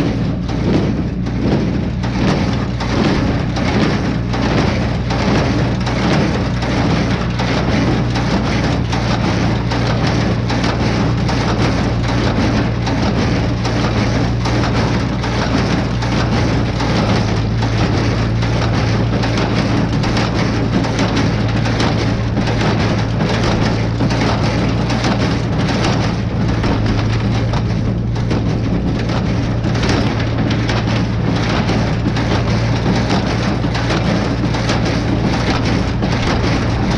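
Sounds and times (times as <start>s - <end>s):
hay baler clattering: 0.0s - 36.9s
tractor engine hum: 0.0s - 36.9s.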